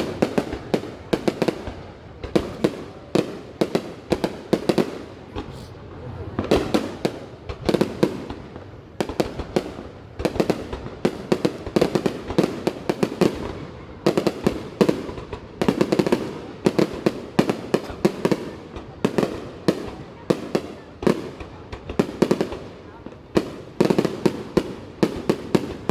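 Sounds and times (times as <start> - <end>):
fireworks bangs: 0.0 - 25.9.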